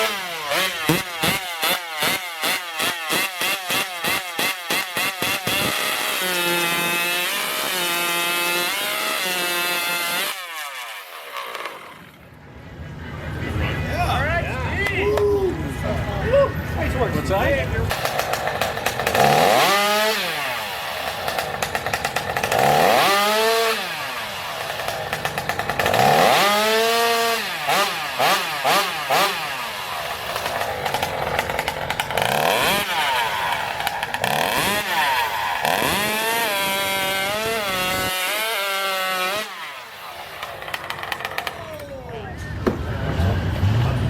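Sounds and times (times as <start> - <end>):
chainsaw revving: 0.0 - 12.3, 17.9 - 42.1.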